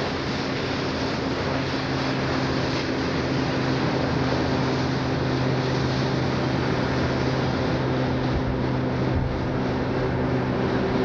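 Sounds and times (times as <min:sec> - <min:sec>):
diesel engine drone: 0:00.0 - 0:11.0
water rushing along hull: 0:00.0 - 0:11.0
wind on microphone: 0:00.0 - 0:11.0.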